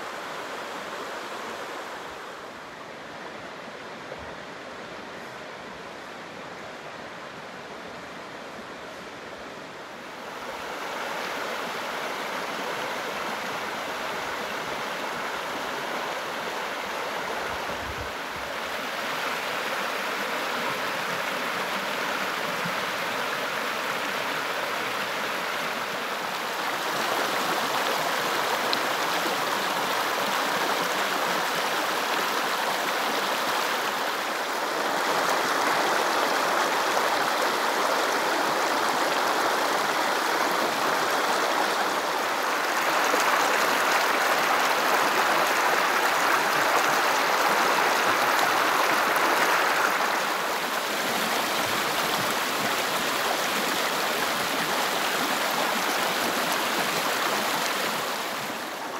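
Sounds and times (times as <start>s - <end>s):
river water rushing over rocks: 0.0s - 58.9s.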